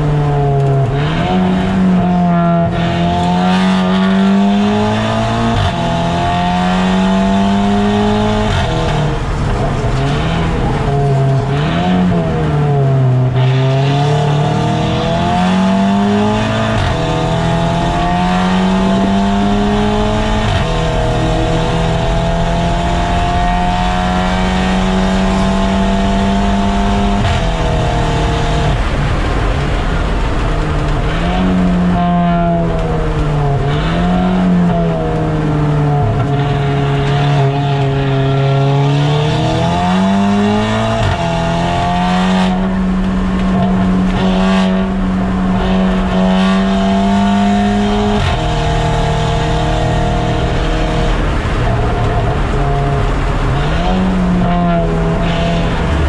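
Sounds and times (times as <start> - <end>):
race car engine revving: 0.0 - 56.0
road and wind noise: 0.0 - 56.0.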